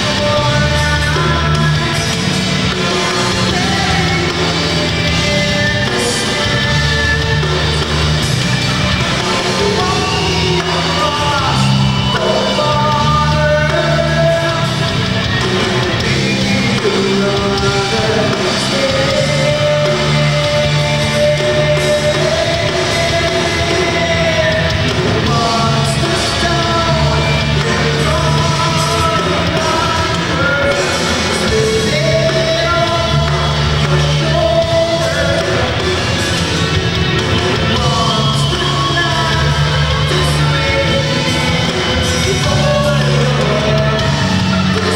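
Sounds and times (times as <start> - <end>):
lead singer's wavering vocals: 0.0 - 44.9
live rock band playing: 0.0 - 44.9.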